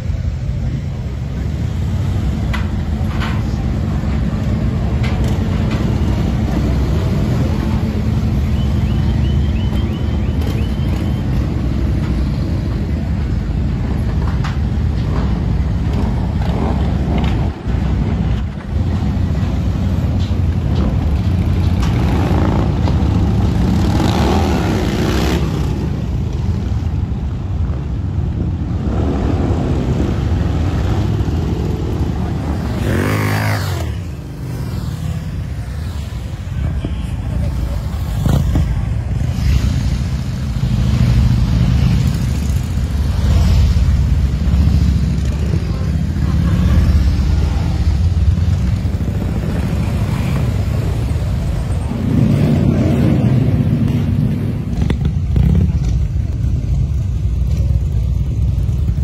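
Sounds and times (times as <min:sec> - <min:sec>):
motorcycle engines rumbling past: 0:00.0 - 0:59.0.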